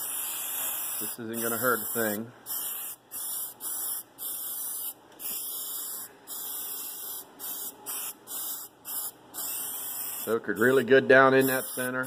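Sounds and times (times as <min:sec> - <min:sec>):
aerosol spray hissing: 0:00.0 - 0:10.8, 0:11.4 - 0:12.0.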